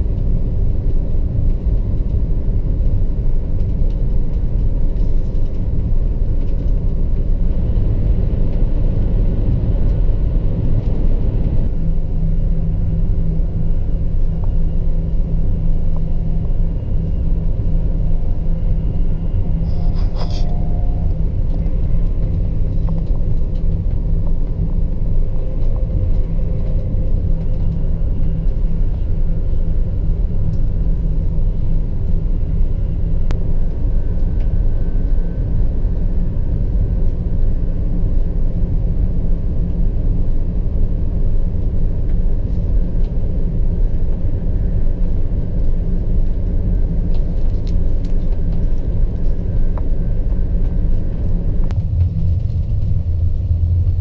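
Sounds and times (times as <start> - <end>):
train interior rumble: 0.0 - 54.0.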